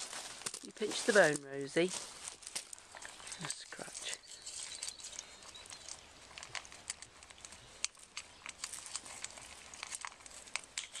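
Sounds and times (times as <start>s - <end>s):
puppies crunching food from metal bowl: 0.0s - 11.0s.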